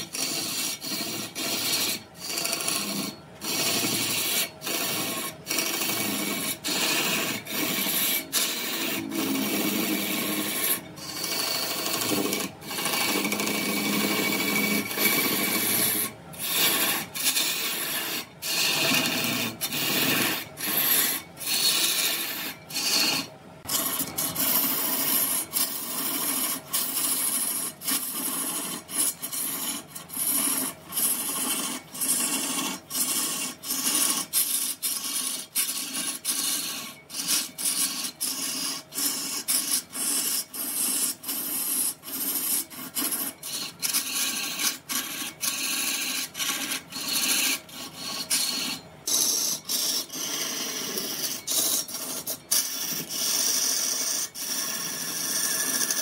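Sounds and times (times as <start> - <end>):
wood being sanded by hand: 0.0 - 56.0.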